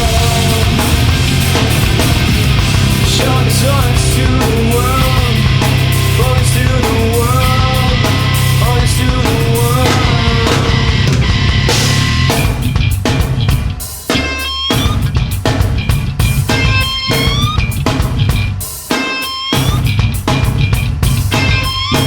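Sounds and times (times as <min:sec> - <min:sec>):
rock music with distorted guitars: 0:00.0 - 0:22.0.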